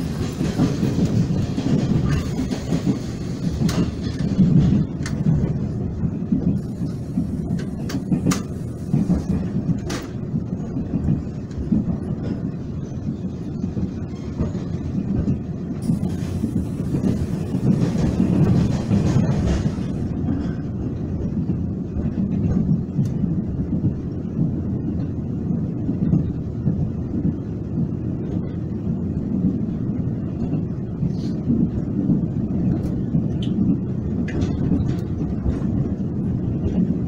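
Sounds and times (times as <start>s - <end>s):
train rumble inside passenger car: 0.0s - 37.0s.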